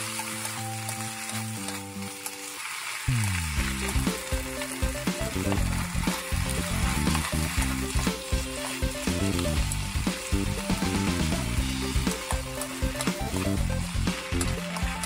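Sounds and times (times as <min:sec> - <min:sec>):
background music: 0:00.0 - 0:02.6, 0:03.2 - 0:15.0
food sizzling in a frying pan: 0:00.0 - 0:15.0.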